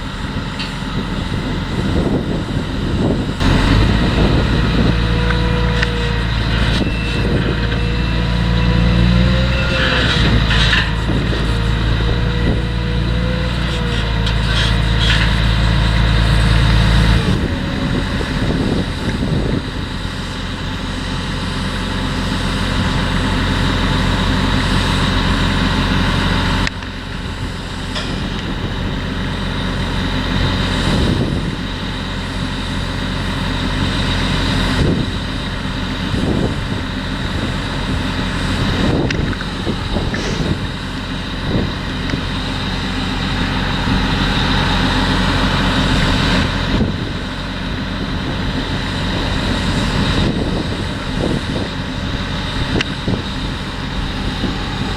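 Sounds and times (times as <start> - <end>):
constant low hum: 0.0 - 54.9
diesel engine drone: 0.0 - 54.9.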